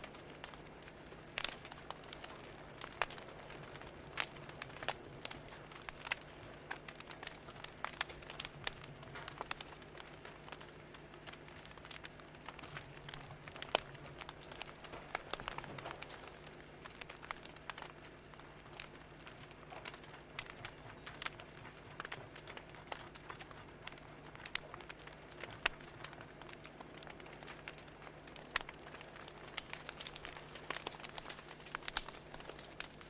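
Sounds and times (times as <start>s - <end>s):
fire pops and snaps: 0.0s - 33.0s
wood fire crackling: 0.0s - 33.0s.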